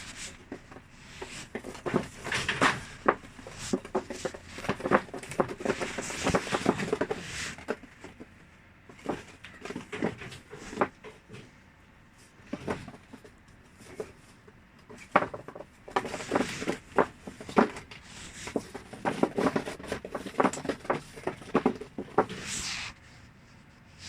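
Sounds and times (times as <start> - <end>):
rustling: 0.0 - 11.6, 12.2 - 24.0.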